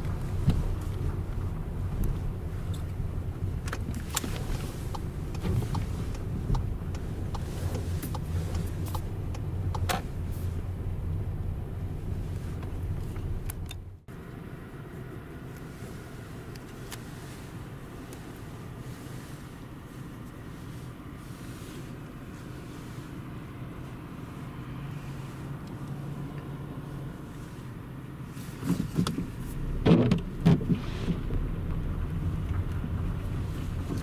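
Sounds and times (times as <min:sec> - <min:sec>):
car road rumble: 0:00.0 - 0:34.0.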